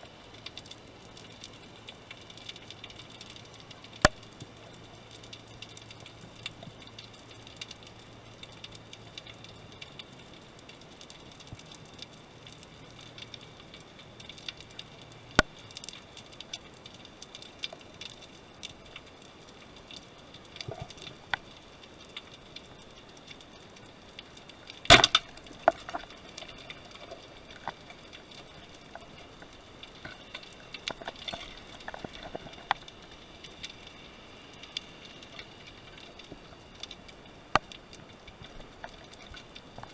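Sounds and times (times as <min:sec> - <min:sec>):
underwater clicks and crackles: 0:00.0 - 0:39.9.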